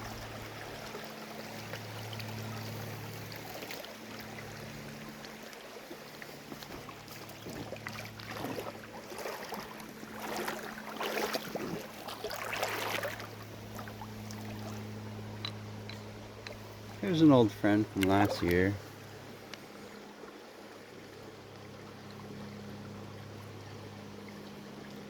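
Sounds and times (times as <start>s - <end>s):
water sloshing splashes: 0.0s - 22.4s
river water running: 0.0s - 25.0s.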